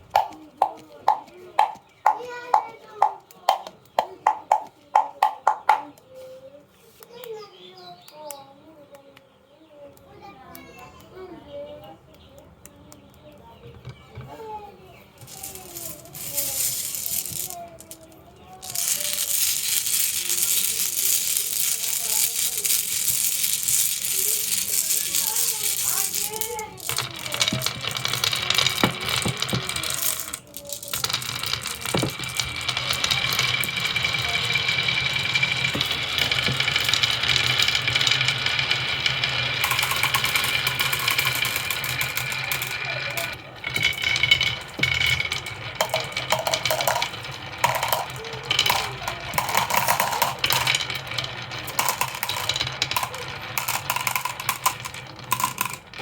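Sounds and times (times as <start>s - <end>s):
marbles clattering down track: 0.0s - 6.0s, 14.2s - 56.0s.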